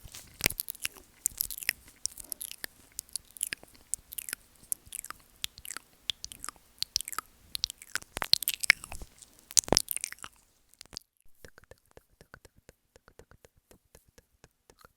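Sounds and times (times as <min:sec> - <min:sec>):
licking and nibbling on microphone: 0:00.0 - 0:14.9
mouth sounds and lip smacks: 0:00.0 - 0:14.9
tongue clicks: 0:00.2 - 0:14.9.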